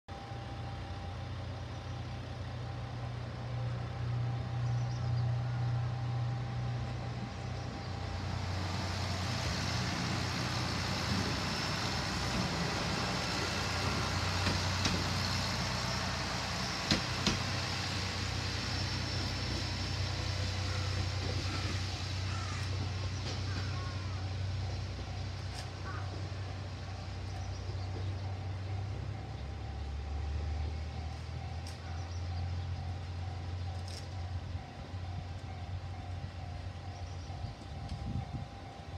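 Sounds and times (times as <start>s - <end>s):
diesel railcar engine hum: 0.1s - 38.9s
wheels rumbling on rails: 0.1s - 38.9s.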